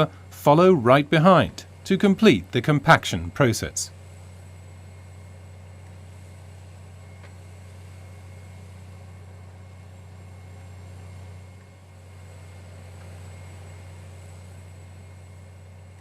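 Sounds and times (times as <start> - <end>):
construction machinery engines droning: 0.0 - 16.0.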